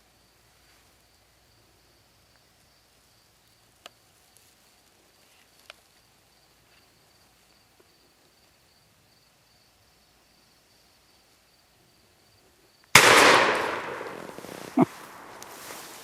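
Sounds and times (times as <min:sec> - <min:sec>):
faint high insect trill: 0:00.0 - 0:12.9.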